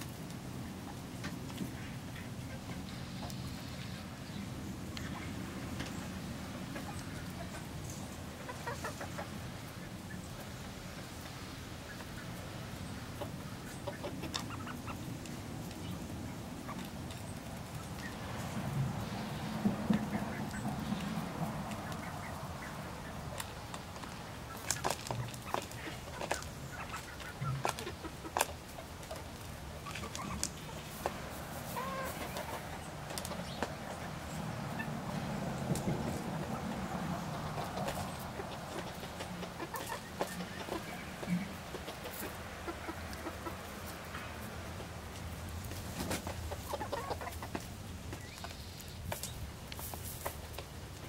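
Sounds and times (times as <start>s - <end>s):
hens clucking: 0.7s - 50.8s.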